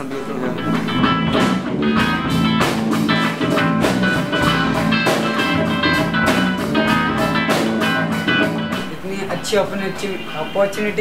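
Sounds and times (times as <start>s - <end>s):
drum and cymbal hits: 0.0s - 10.4s
guitar: 0.0s - 11.0s
rock band playing: 0.0s - 11.0s.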